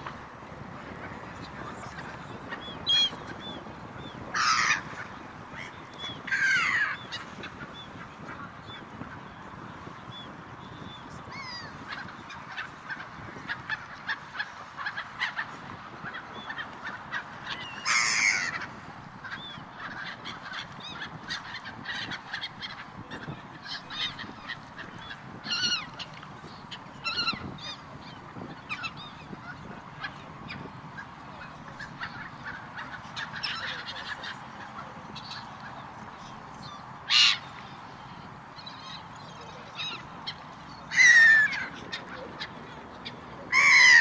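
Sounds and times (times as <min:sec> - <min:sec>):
gulls calling: 0:00.0 - 0:44.0.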